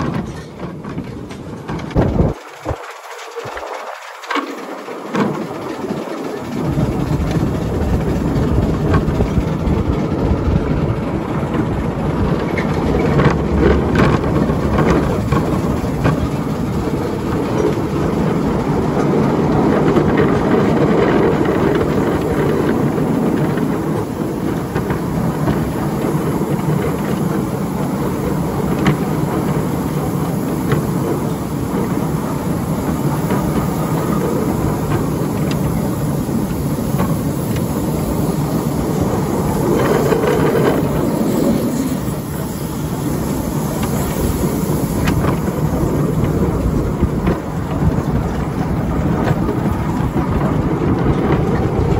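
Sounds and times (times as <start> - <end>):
miniature train rumbling on rails: 0.0 - 51.9.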